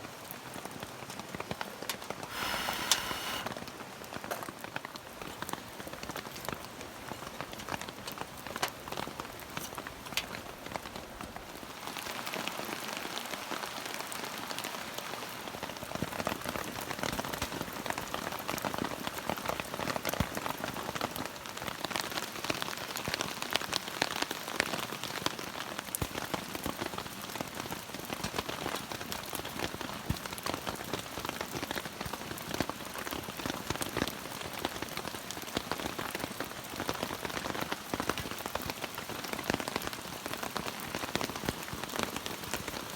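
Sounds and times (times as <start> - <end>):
raindrops pattering close by: 0.0 - 42.9
steady rain falling: 0.0 - 42.9.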